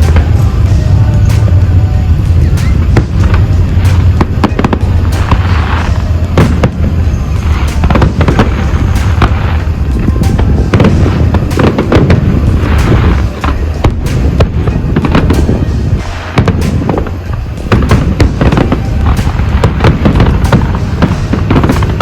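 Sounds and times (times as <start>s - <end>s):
fireworks bangs and crackling: 0.0s - 22.0s
music playing: 0.0s - 22.0s.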